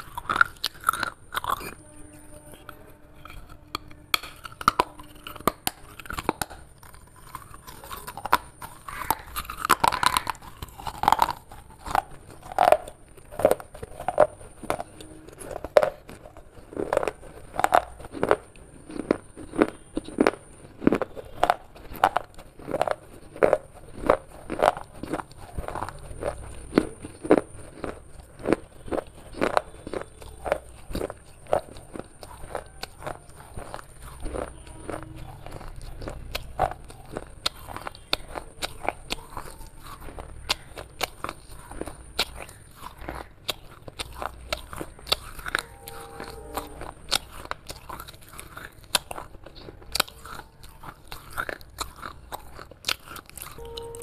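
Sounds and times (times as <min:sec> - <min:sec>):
pottery crunching in mouth: 0:00.0 - 0:54.0.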